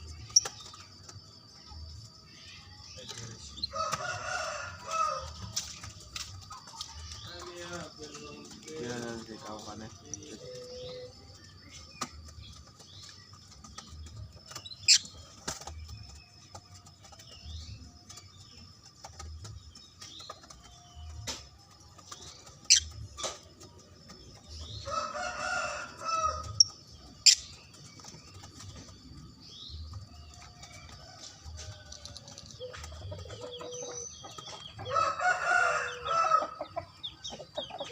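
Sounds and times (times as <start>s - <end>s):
lovebirds chirping: 0.0s - 37.9s.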